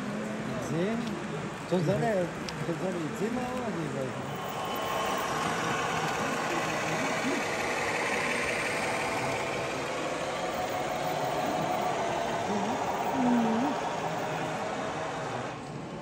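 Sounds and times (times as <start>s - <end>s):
faint whining motors: 0.0s - 16.0s
model trains running on tracks: 0.0s - 16.0s.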